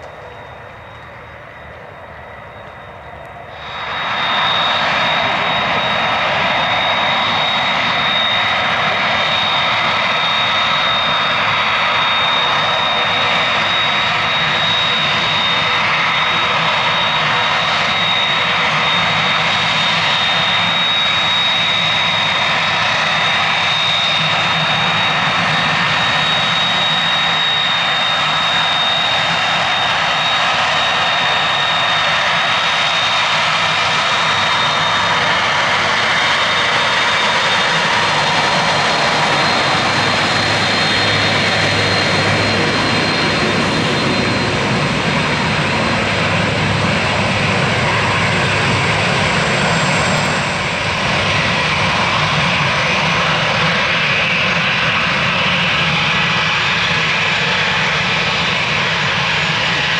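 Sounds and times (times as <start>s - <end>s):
jet engines with fan whine: 0.0s - 59.9s.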